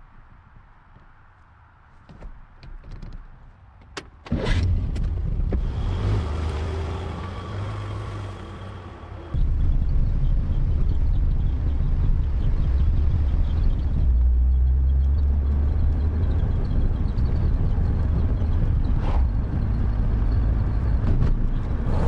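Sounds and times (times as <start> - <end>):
car engine starting and running: 4.2 - 22.0.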